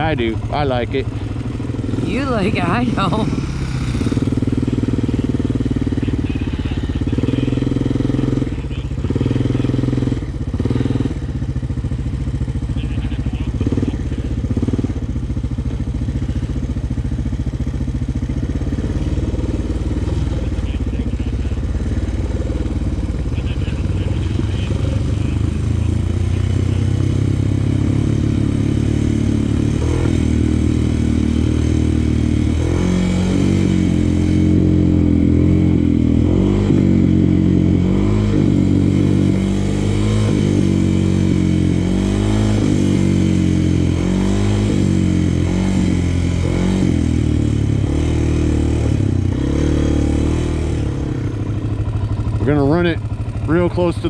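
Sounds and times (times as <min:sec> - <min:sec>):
quad engine revving: 0:00.0 - 0:15.1, 0:15.7 - 0:54.0.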